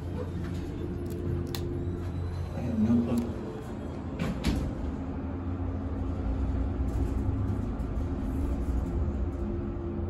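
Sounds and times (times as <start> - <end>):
elevator rumble and hum: 0.0 - 10.0.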